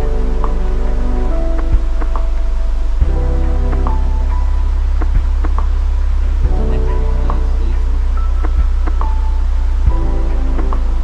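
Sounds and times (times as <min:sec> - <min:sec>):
background music with deep bass: 0:00.0 - 0:11.0.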